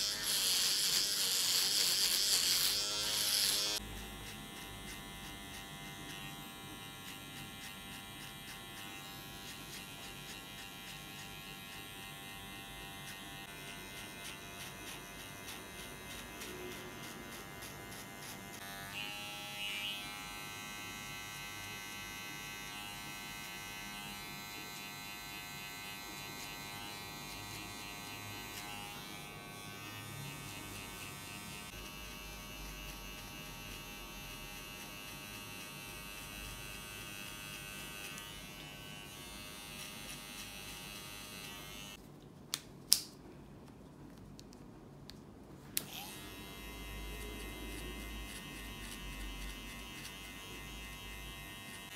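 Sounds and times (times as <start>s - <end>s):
electric hair clipper buzzing: 0.0s - 42.0s, 45.8s - 51.9s.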